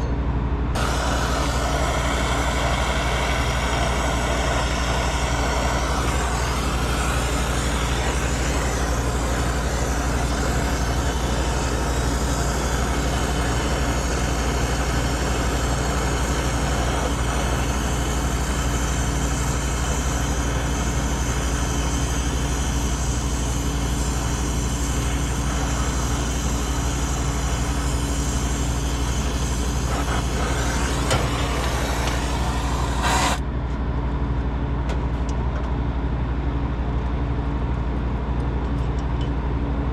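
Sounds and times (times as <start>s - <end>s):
machine humming: 0.0s - 33.5s
machine hiss: 0.8s - 33.4s.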